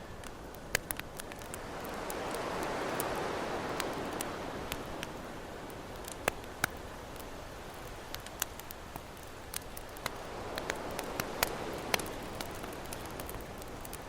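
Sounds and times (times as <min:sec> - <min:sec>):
campfire crackling: 0:00.0 - 0:14.0
ocean waves: 0:00.2 - 0:14.0.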